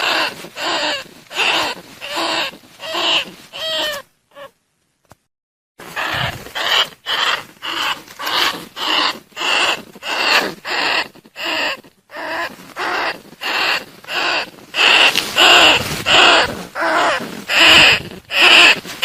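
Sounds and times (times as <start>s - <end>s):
rat squealing: 0.0s - 4.5s, 5.8s - 19.0s.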